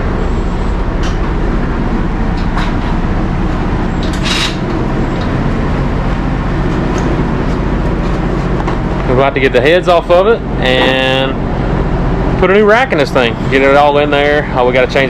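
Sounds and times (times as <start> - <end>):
low motor drone: 0.0 - 15.0.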